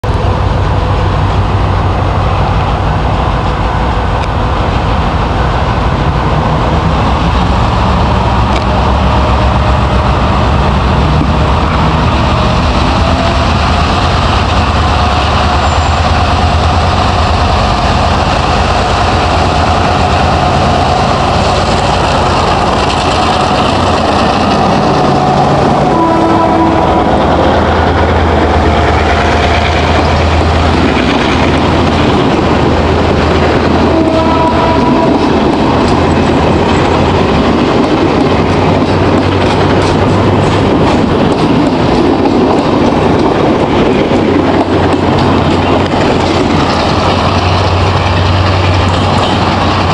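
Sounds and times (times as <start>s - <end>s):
diesel locomotive engine under load: 0.0s - 49.9s.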